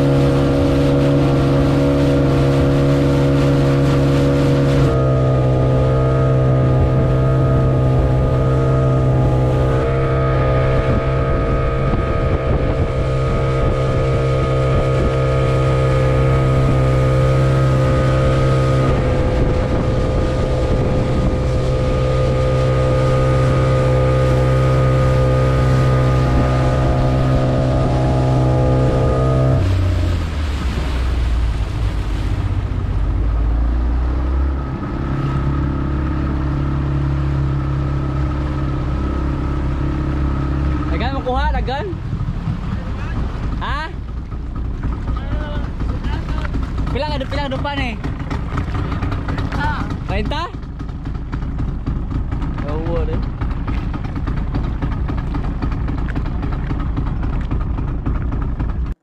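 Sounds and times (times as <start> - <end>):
speedboat engine running: 0.0 - 59.0
water rushing past hull: 0.0 - 59.0.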